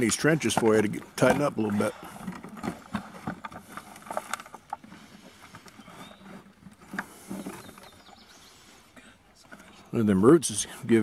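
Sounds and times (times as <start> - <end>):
plastic scraping against dirt: 0.0 - 11.0.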